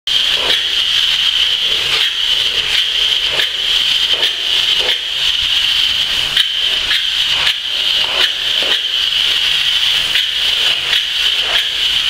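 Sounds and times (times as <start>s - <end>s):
spray foam gun hissing: 0.1s - 12.0s.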